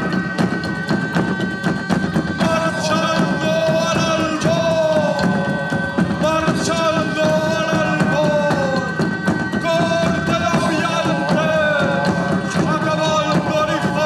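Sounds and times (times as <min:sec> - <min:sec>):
drums and percussion: 0:00.0 - 0:14.0.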